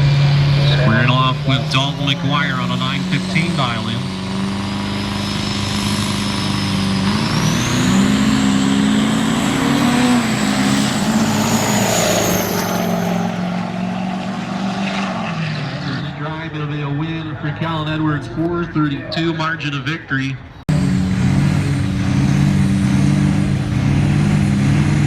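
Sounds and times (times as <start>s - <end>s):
diesel truck engines racing: 0.0s - 25.0s.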